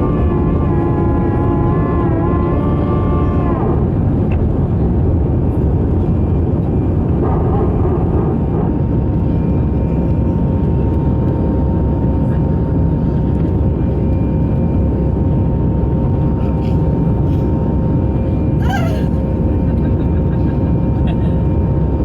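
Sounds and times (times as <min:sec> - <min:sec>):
engine whine tones: 0:00.0 - 0:22.0
jet engine rush in cabin: 0:00.0 - 0:22.0.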